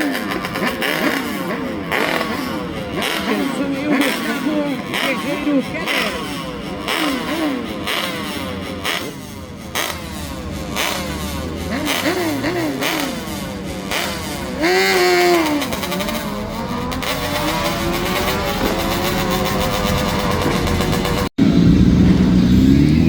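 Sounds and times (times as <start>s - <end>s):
motorcycle accelerating away: 0.0s - 23.0s
motorcycle engines revving: 0.0s - 23.0s.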